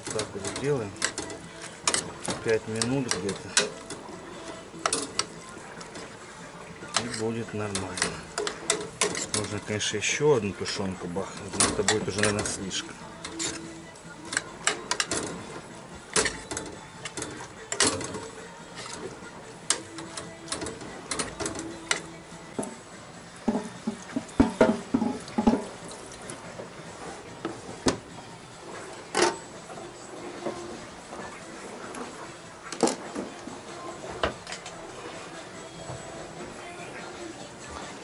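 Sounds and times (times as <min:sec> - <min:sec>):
pots and utensils clinking: 0:00.0 - 0:35.2.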